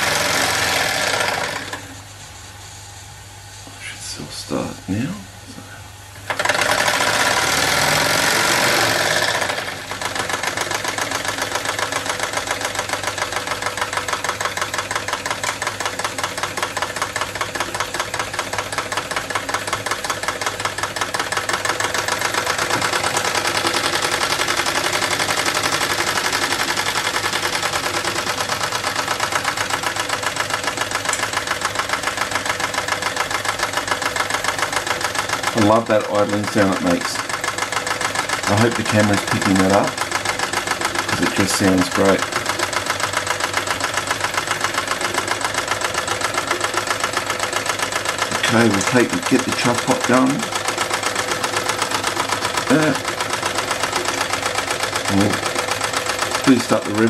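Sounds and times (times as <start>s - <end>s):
steam engine chuffing: 6.3s - 57.0s.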